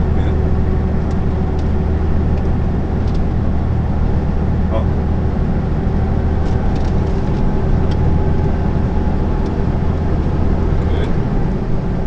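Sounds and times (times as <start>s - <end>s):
lorry engine and tyre drone: 0.0s - 12.0s.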